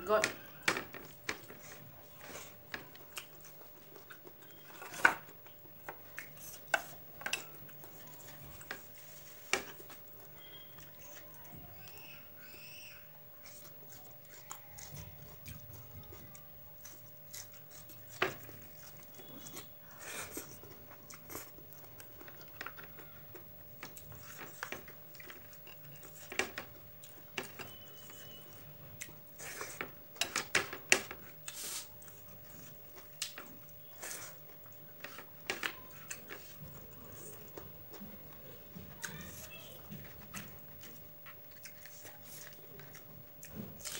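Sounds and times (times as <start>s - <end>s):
person chewing with wet clicks: 0.1s - 43.9s.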